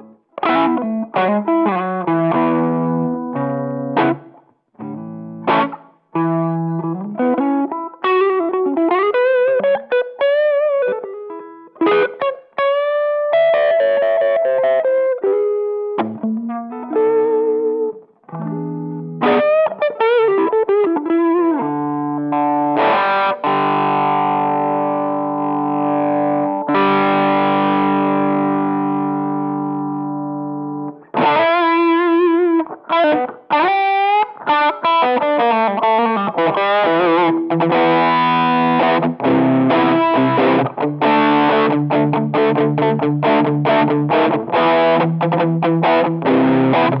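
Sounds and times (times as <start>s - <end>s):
distorted electric guitar: 0.0s - 47.0s.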